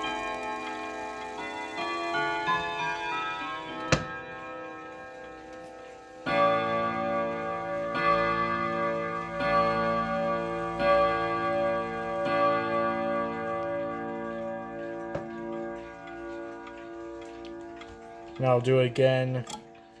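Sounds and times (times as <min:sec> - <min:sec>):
clock chime melody: 0:00.0 - 0:20.0
clock striking on chime rods: 0:00.0 - 0:20.0.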